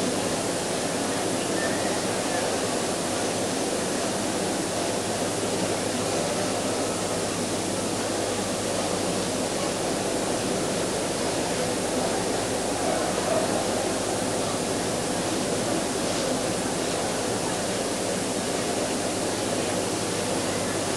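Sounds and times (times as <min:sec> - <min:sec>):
indoor crowd background noise: 0:00.0 - 0:20.9.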